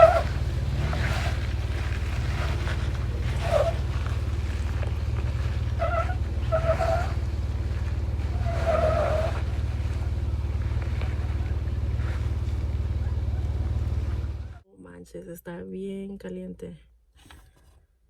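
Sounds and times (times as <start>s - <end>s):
off-road vehicle engine running: 0.0s - 14.6s
short vehicle squeals: 0.0s - 14.6s.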